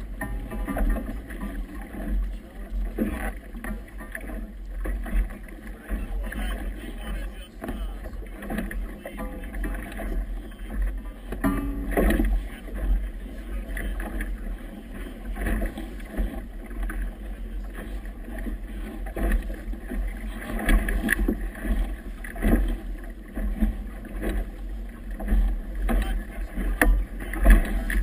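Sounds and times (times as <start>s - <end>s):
water slapping against boat hull: 0.0s - 28.0s.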